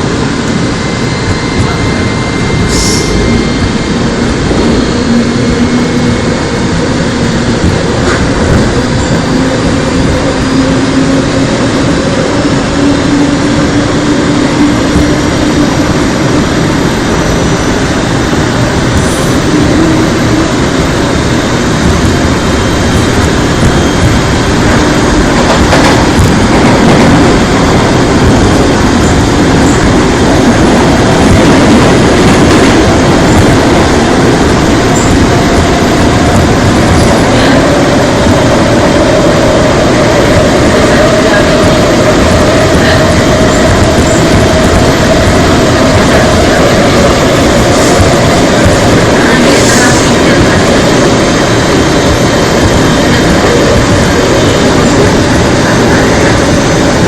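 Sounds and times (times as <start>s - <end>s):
train wheels rumbling: 0.0s - 57.0s.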